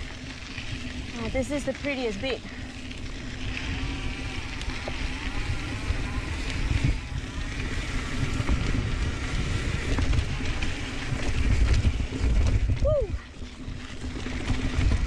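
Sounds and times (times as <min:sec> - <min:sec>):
tyre and wind rumble: 0:00.0 - 0:15.0.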